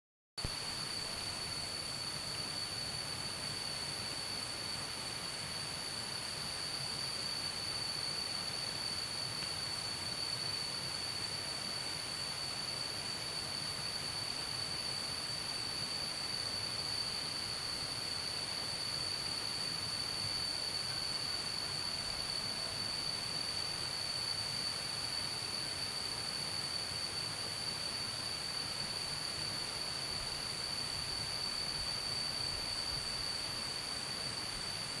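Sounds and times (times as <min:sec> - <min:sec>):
high shrill insect band: 0:00.4 - 0:35.0
insect chorus trilling: 0:00.4 - 0:35.0.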